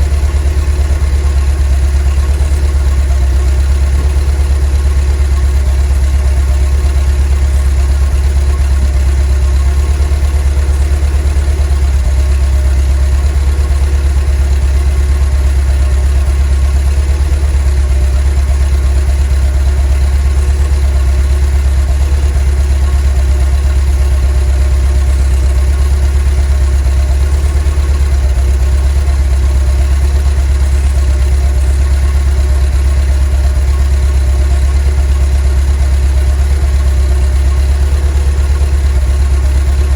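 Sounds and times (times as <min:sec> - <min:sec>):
van engine idling: 0:00.0 - 0:39.9.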